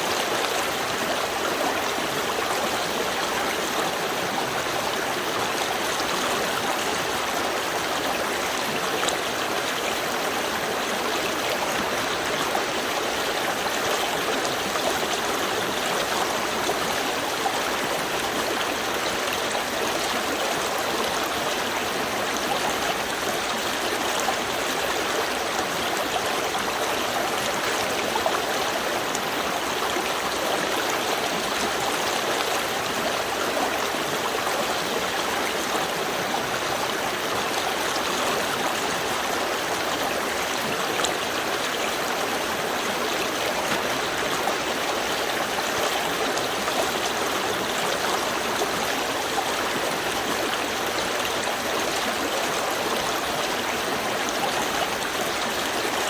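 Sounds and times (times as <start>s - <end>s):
stream flowing and gurgling: 0.0s - 56.0s.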